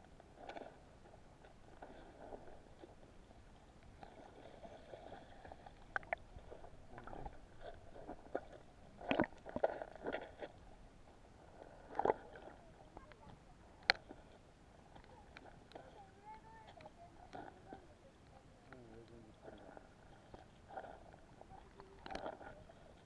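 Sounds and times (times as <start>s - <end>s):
muffled underwater river murmur: 0.0s - 23.0s.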